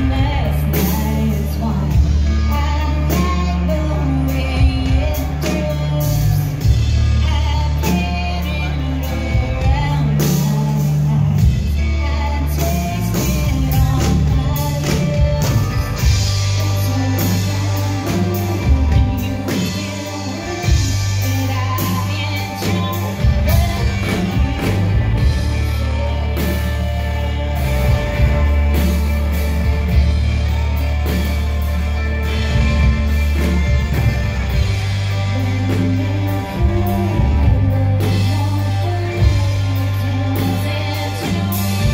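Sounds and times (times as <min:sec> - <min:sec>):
bass guitar: 0:00.0 - 0:41.9
drums: 0:00.0 - 0:41.9
electric guitar: 0:00.0 - 0:41.9
woman singing: 0:00.0 - 0:41.9.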